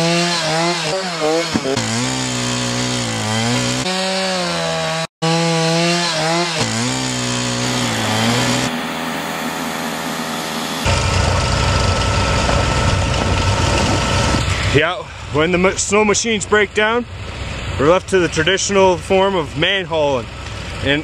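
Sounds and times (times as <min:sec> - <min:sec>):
chainsaw cutting snow: 0:00.0 - 0:15.4, 0:19.3 - 0:21.0.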